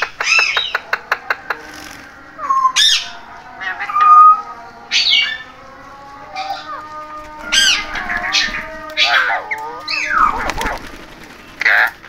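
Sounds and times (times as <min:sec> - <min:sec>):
parakeets squawking: 0:00.0 - 0:12.0.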